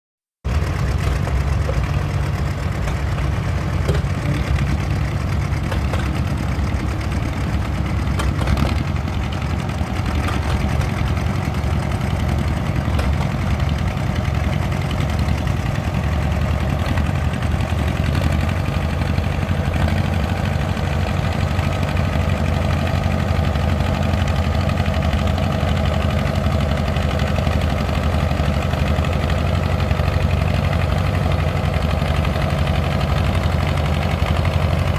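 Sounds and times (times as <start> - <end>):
tractor engine droning: 0.5 - 34.9.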